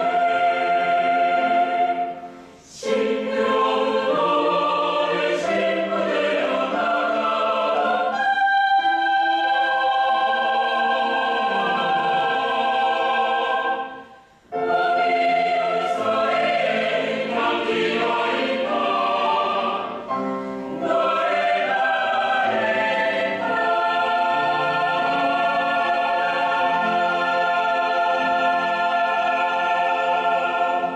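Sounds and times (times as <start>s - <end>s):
mixed choir singing: 0.0s - 30.9s.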